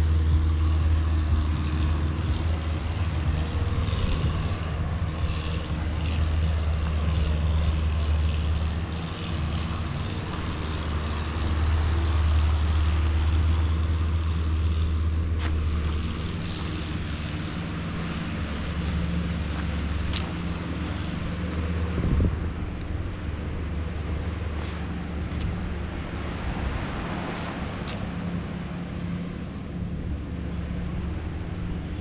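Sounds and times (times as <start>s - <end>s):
motor engine droning: 0.0s - 32.0s.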